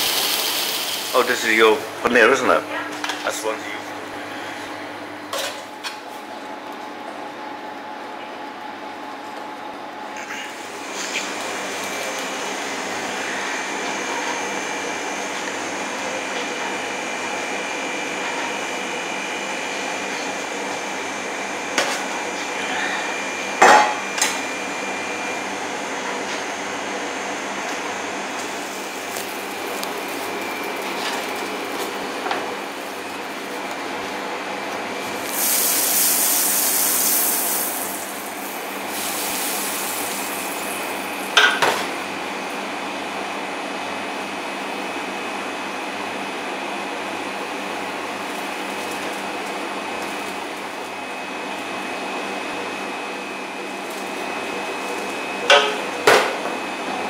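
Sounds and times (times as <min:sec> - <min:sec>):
kitchen equipment hum: 0:00.0 - 0:57.0.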